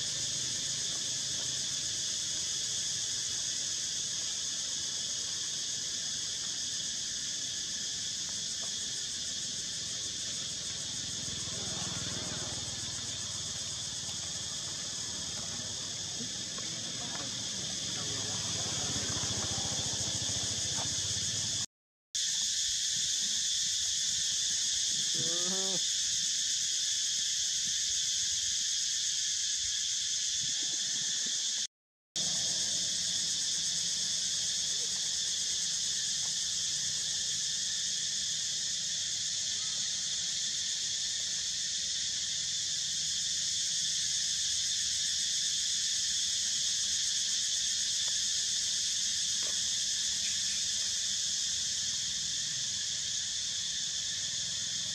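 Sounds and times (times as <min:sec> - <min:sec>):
insect drone: 0:00.0 - 0:54.9.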